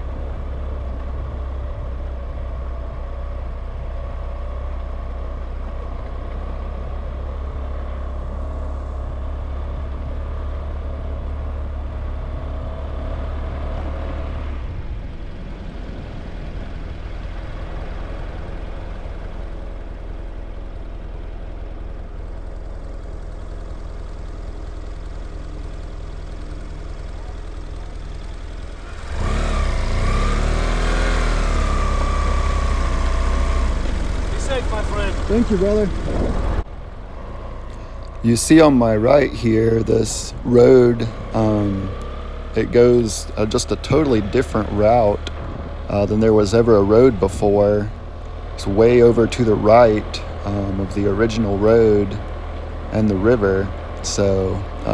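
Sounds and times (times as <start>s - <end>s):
loud wavering engine: 0.0s - 54.9s
vehicle engine and road noise: 0.0s - 54.9s.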